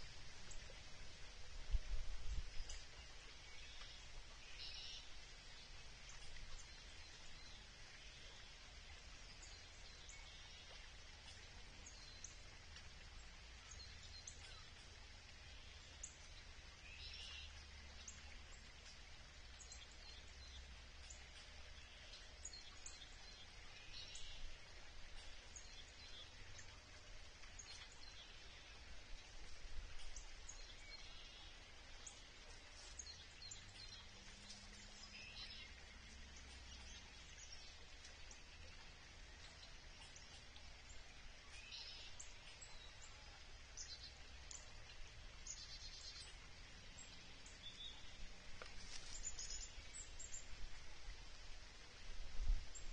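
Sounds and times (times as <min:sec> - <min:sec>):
creek water hush: 0:00.0 - 0:52.9.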